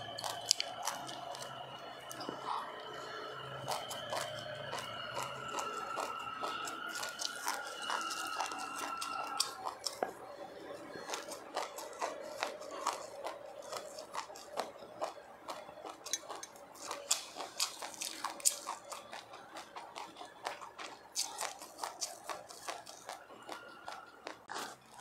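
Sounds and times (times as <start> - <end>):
seeds being chewed: 0.0 - 25.0.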